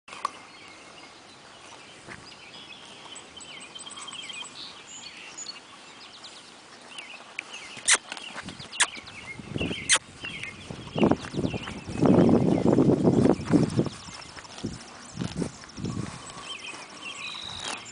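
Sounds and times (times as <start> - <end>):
birds chirping and trilling: 0.1 - 17.9.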